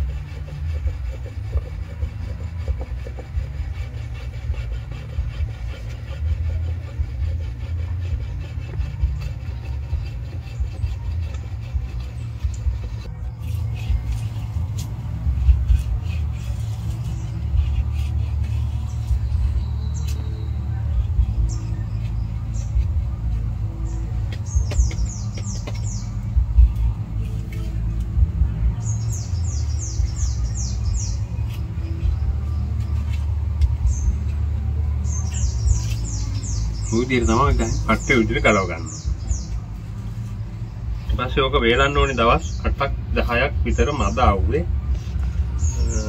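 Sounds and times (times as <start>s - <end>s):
steady low rumble: 0.0s - 38.1s.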